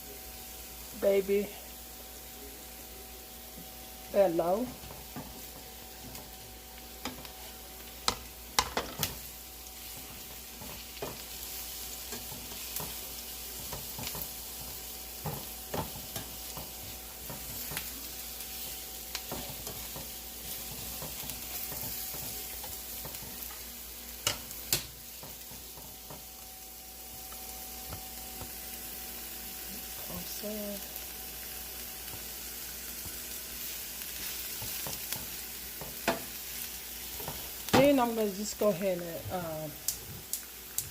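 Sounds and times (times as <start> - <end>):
vegetables sizzling in hot oil: 0.0 - 40.9.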